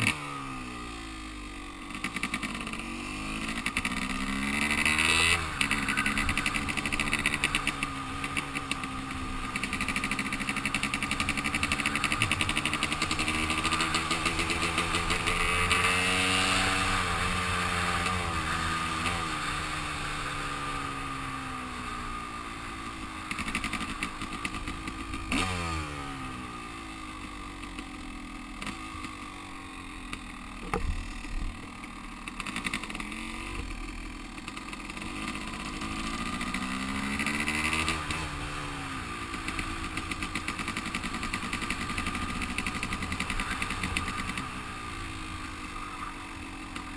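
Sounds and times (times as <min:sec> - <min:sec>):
dirtbike engine revving: 0:00.0 - 0:26.9, 0:27.6 - 0:46.9.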